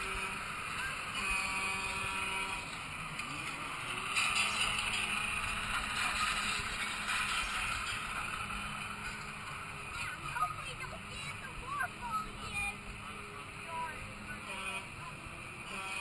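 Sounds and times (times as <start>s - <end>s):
ride mechanical hum: 0.0s - 16.0s.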